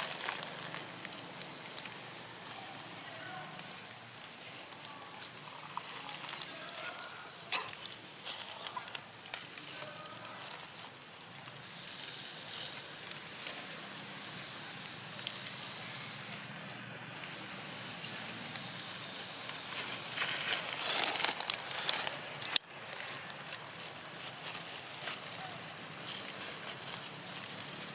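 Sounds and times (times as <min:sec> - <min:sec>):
crackling rustling noise: 0:00.0 - 0:27.9.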